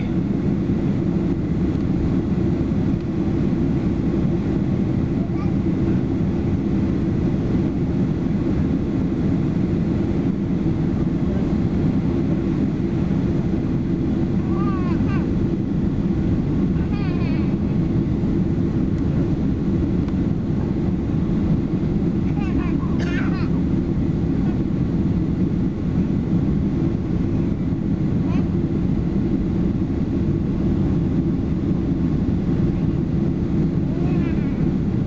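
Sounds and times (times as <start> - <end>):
airliner cabin engine roar: 0.0 - 35.0.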